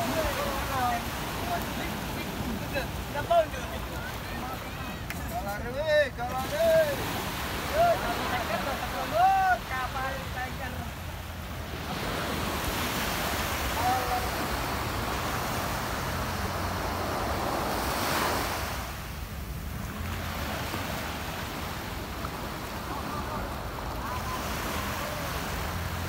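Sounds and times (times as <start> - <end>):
small waves breaking on sand: 0.0 - 26.0.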